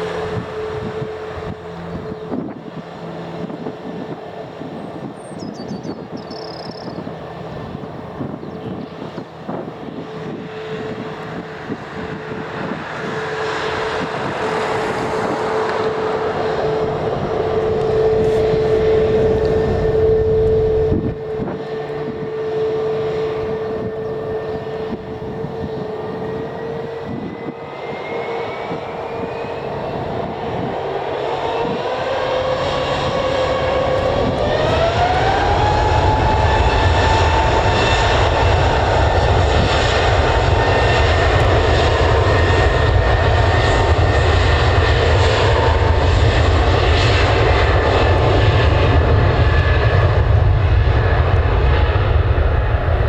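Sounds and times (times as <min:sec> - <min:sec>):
jet engine whine: 0:00.0 - 0:53.0
loud low engine roar: 0:00.0 - 0:53.0.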